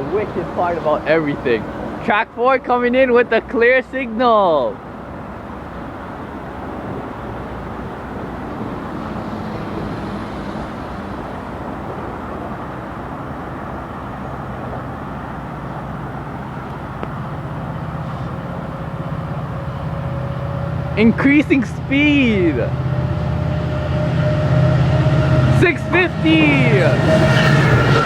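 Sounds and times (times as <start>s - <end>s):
low diesel engine hum: 0.0s - 28.0s
train rumbling along track: 0.0s - 28.0s.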